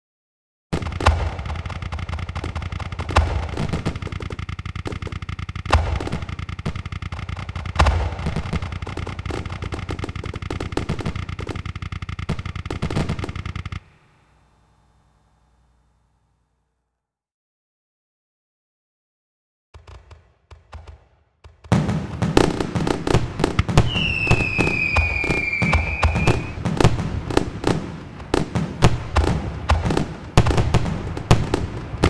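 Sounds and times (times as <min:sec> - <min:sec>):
fireworks banging: 0:00.7 - 0:14.4, 0:19.8 - 0:32.0
fireworks booming: 0:00.7 - 0:14.4, 0:19.8 - 0:32.0.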